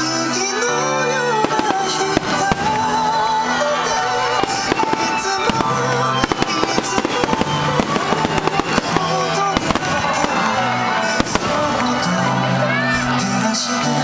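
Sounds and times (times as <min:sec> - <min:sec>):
background music: 0:00.0 - 0:14.0
fireworks bursting and crackling: 0:00.0 - 0:14.0.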